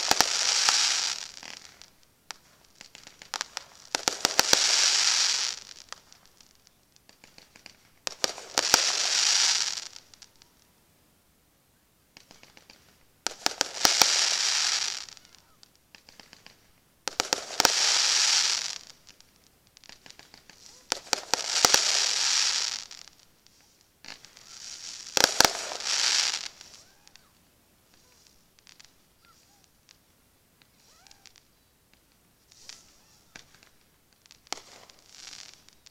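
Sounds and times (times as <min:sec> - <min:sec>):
fireworks cracking: 0:00.0 - 0:10.7, 0:12.1 - 0:35.9
fireworks hissing crackle: 0:00.0 - 0:10.8, 0:12.1 - 0:35.9.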